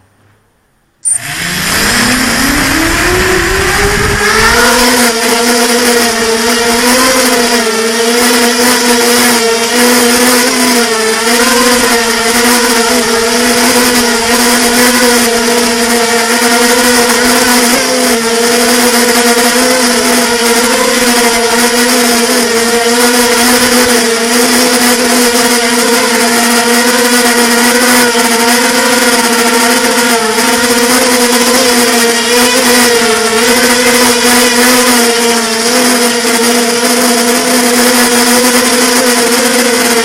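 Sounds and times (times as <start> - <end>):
quadcopter motors whining: 1.0 - 40.0.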